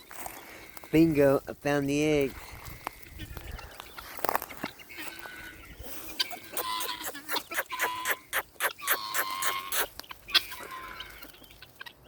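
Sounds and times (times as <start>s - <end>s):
chickens clucking: 2.0s - 12.0s.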